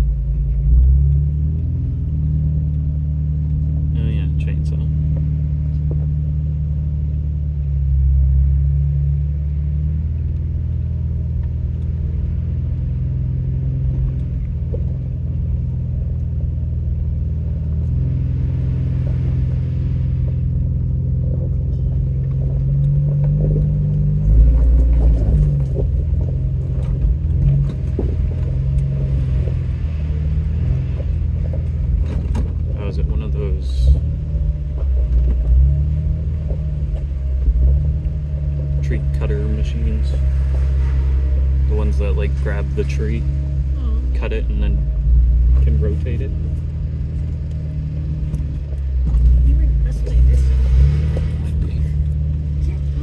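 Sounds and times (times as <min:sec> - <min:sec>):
vehicle engine running in low gear: 0:00.0 - 0:53.0.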